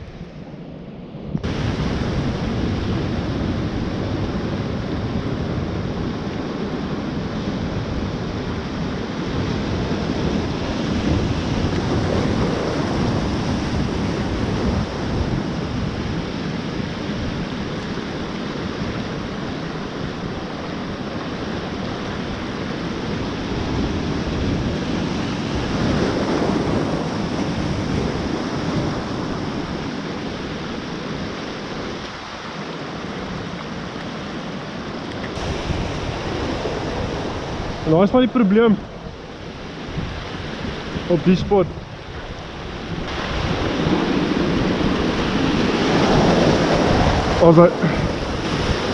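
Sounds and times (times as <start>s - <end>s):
wind rumbling on microphone: 0.0s - 48.9s
surf breaking over rocks: 1.3s - 48.9s.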